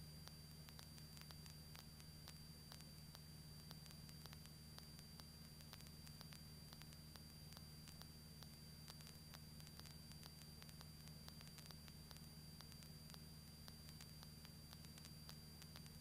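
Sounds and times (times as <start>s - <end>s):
faint low hum: 0.0s - 16.0s
static hiss: 0.0s - 16.0s
thin high whine: 0.0s - 16.0s
faint clicks: 0.2s - 16.0s.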